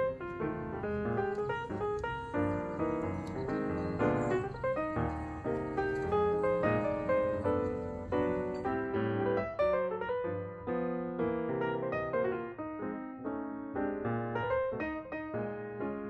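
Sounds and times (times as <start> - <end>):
piano melody with chords: 0.0 - 16.0.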